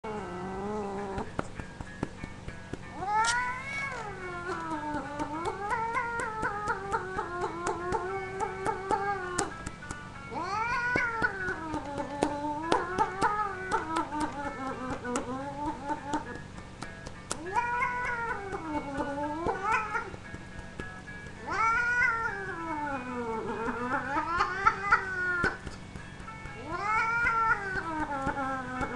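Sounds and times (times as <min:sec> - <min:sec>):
cat yowling: 0:00.1 - 0:01.3, 0:02.9 - 0:09.5, 0:10.3 - 0:16.4, 0:17.3 - 0:20.3, 0:21.3 - 0:25.7, 0:26.5 - 0:28.9.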